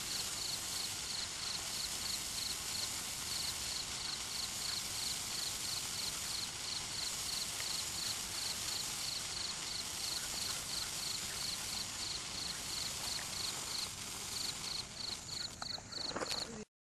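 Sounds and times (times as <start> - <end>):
cricket chirping: 0.0 - 16.6
sparkler fizzing and crackling: 0.0 - 16.7.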